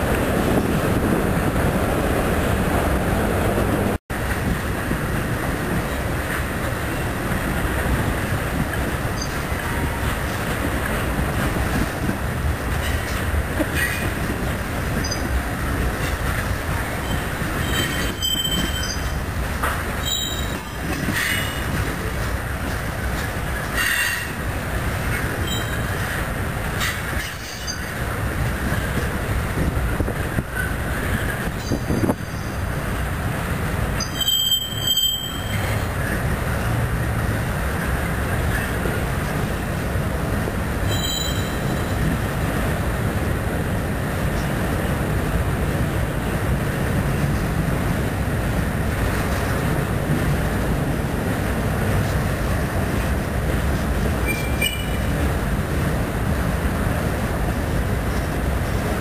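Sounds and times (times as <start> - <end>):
freight train rumble and clatter: 0.0 - 59.0.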